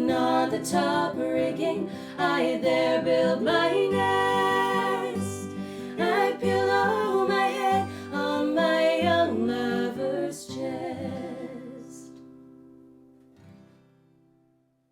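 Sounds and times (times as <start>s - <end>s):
instrumental folk ballad: 0.0s - 14.9s.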